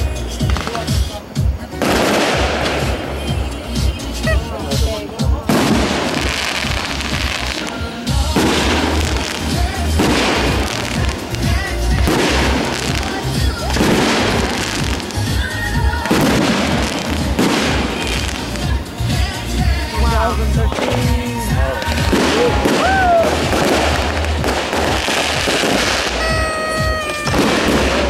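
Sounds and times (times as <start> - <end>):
fireworks bursting: 0.0 - 28.0
music with heavy bass: 0.0 - 28.0.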